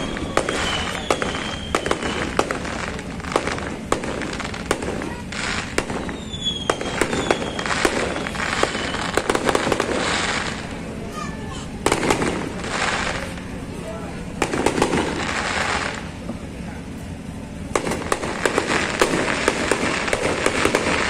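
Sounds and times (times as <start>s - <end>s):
fireworks bangs and crackling: 0.0s - 21.0s
fireworks falling whistles: 0.0s - 21.0s.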